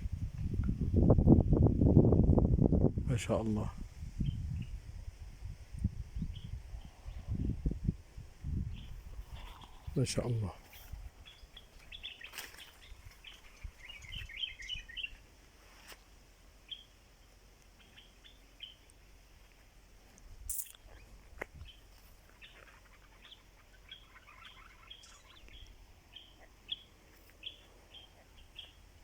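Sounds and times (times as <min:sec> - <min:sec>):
small birds chirping: 0:04.2 - 0:04.9, 0:05.8 - 0:29.0.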